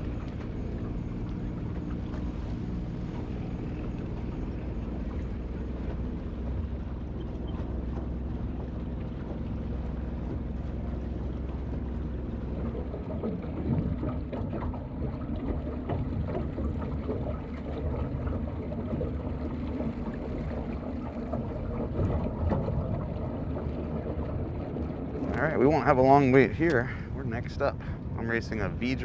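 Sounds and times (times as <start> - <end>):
boat engine idling: 0.0 - 29.0.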